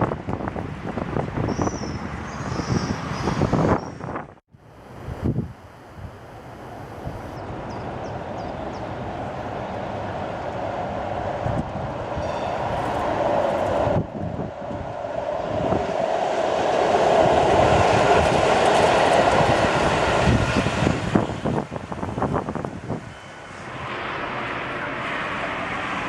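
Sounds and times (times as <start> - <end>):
tram rumbling on rails: 0.0 - 5.1, 6.0 - 26.0.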